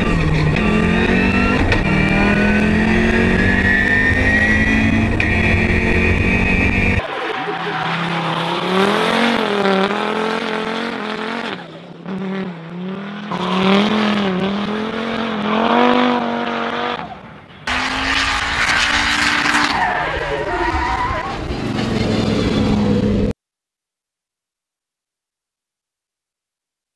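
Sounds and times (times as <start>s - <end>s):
rally car engine revving: 0.0s - 23.3s
tyres skidding and squealing: 0.0s - 23.3s.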